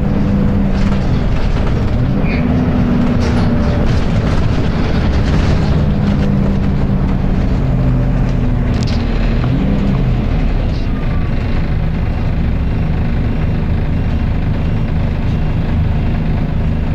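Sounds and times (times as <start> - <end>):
bus diesel engine droning: 0.0 - 16.9.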